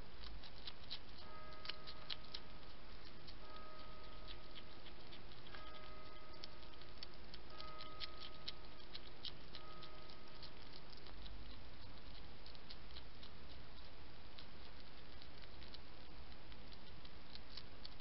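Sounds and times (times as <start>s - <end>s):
hedgehog chewing crunchy food: 0.0s - 18.0s.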